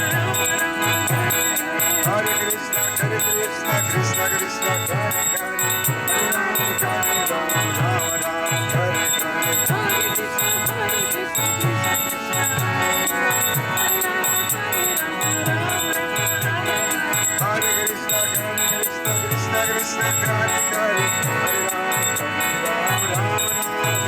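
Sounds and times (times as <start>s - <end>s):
harmonium held tones: 0.0s - 24.0s.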